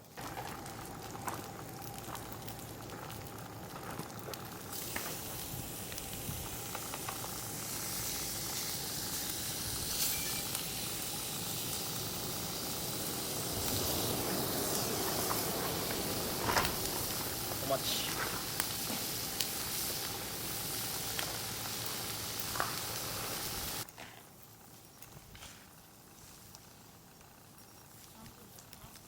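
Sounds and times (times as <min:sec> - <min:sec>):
food sizzling on a griddle: 0:00.0 - 0:29.0.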